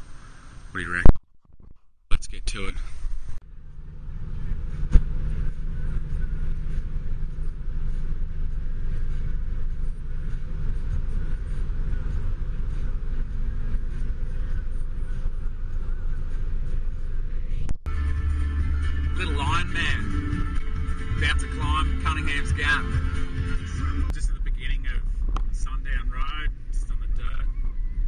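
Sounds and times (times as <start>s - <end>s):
car road and engine noise: 2.3s - 28.0s.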